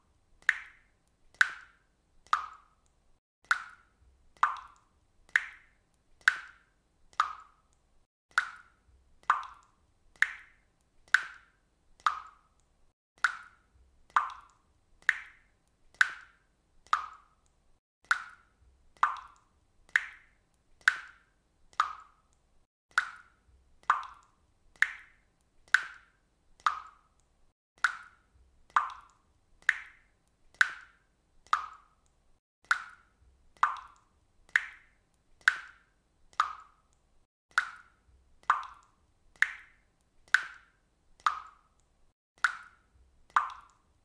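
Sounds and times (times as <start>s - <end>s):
water dripping from a faucet: 0.0s - 44.0s.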